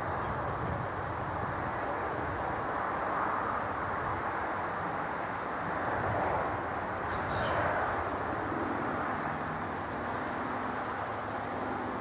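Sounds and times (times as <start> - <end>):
steam locomotive rumble: 0.0 - 12.0.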